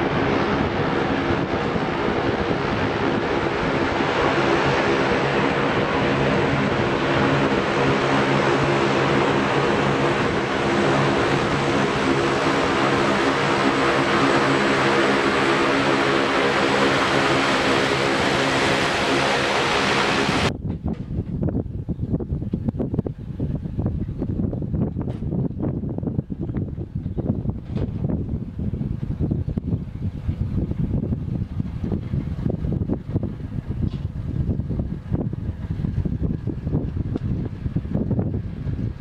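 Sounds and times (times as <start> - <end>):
turboprop engines droning: 0.0 - 39.0.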